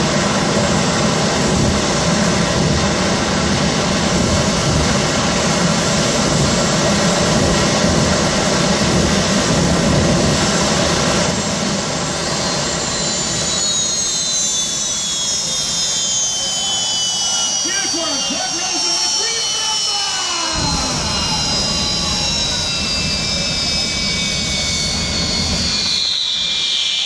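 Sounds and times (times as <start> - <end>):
jet engine rushing: 0.0 - 27.0
jet engine spooling down: 0.0 - 27.0.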